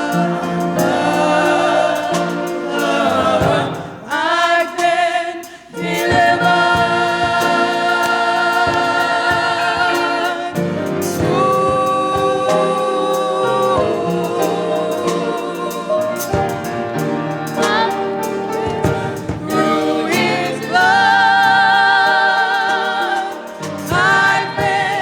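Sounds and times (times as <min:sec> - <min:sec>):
band playing a regular beat: 0:00.0 - 0:25.0
gospel choir singing: 0:00.0 - 0:25.0.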